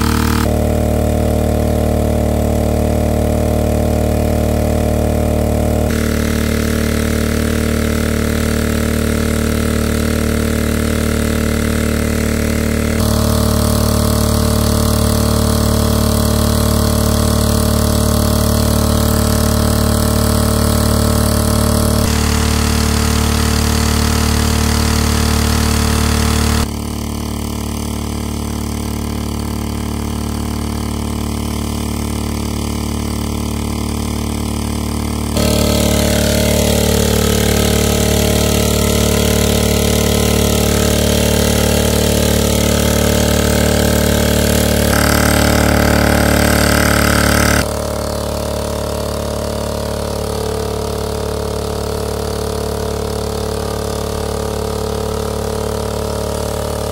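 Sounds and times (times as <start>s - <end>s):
petrol water pump running: 0.0s - 56.9s.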